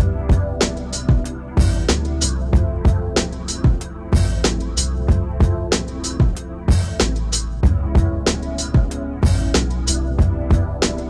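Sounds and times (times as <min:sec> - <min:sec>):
instrumental beat with drums and bass: 0:00.0 - 0:11.0.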